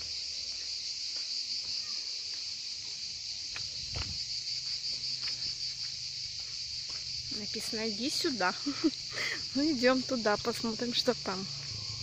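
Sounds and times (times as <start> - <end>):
cicadas singing in chorus: 0.0 - 12.0.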